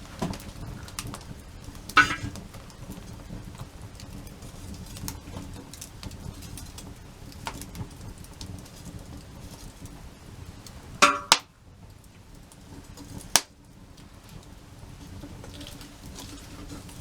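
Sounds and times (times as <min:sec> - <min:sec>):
campfire crackling: 0:00.0 - 0:17.0
sharp fire snaps and pops: 0:00.0 - 0:17.0.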